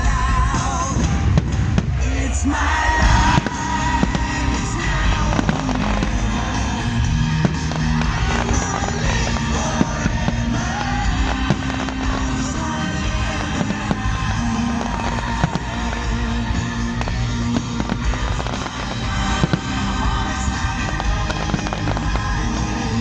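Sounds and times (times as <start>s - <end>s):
fireworks bangs and crackles: 0.0s - 23.0s
music playing: 0.0s - 23.0s.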